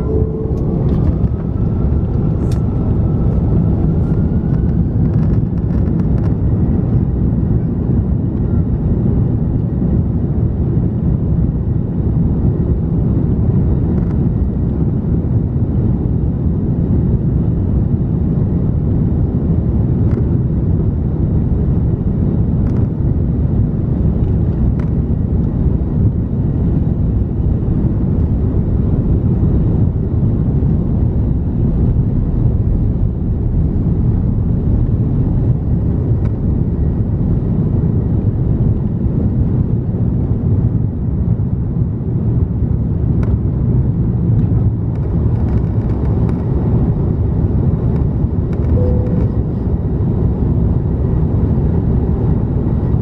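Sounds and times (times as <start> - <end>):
jet engines deep rumble: 0.0 - 53.0.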